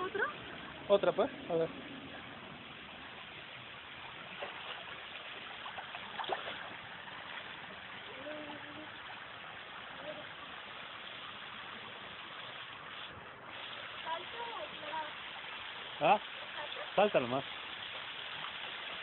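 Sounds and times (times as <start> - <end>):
running pool water: 0.0 - 19.0
water splashes: 0.0 - 19.0.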